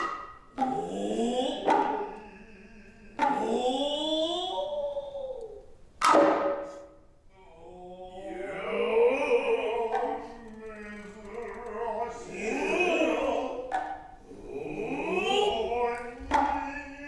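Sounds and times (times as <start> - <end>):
drawn-out sung voices: 0.0 - 5.7, 7.3 - 17.0.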